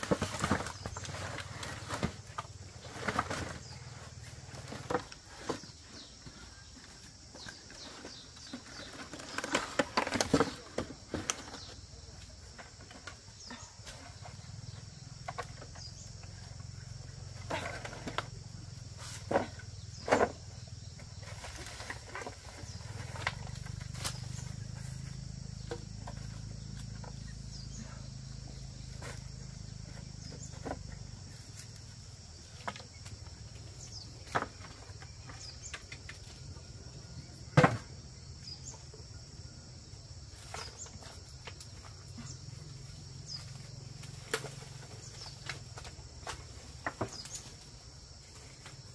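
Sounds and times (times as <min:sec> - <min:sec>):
insects chirring: 0:00.0 - 0:48.9.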